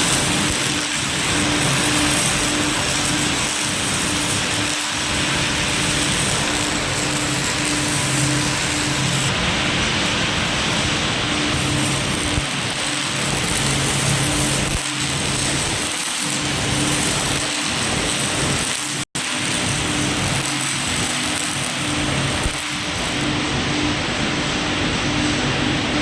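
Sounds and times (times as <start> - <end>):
welding arc crackling hiss: 0.0 - 24.9.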